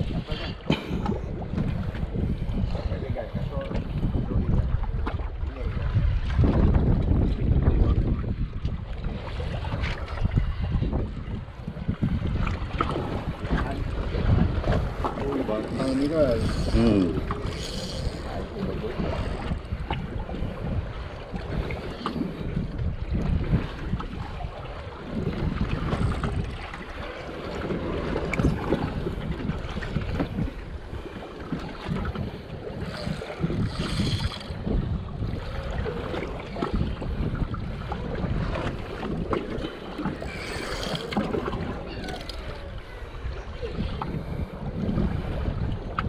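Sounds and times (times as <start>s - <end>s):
sea water sloshing: 0.0s - 46.0s
wind buffeting the microphone: 0.0s - 46.0s.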